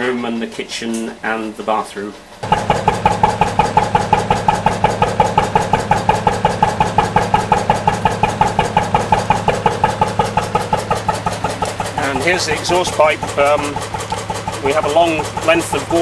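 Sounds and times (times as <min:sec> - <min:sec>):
diesel engine exhaust puffing: 0:02.0 - 0:16.0.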